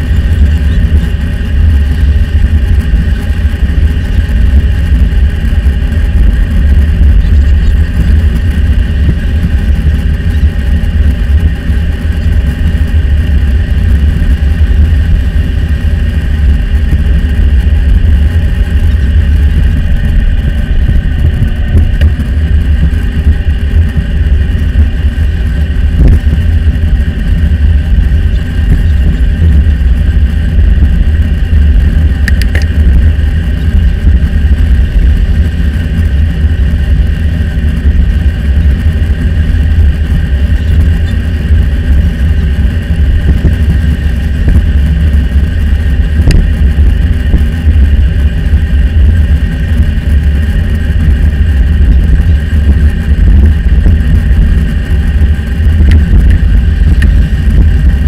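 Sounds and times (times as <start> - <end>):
road noise: 0.0 - 58.0
wind rumble on microphone: 0.0 - 58.0.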